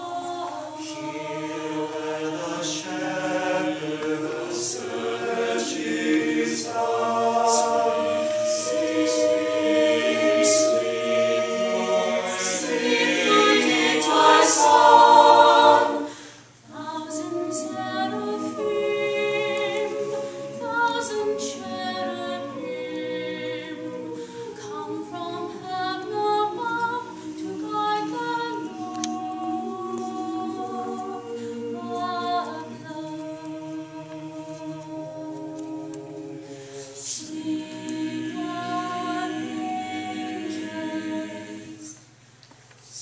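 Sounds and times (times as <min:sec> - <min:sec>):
mixed choir singing a cappella: 0:00.0 - 0:42.2.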